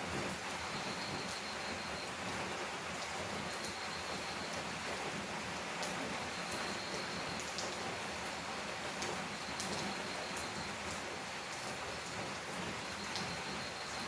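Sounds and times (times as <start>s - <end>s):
heavy rain on tin roof: 0.0s - 14.0s.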